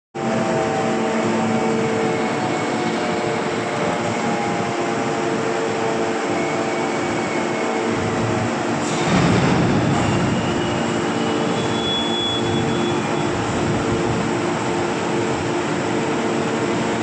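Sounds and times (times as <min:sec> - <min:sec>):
machinery drone with whining tones: 0:00.2 - 0:17.0.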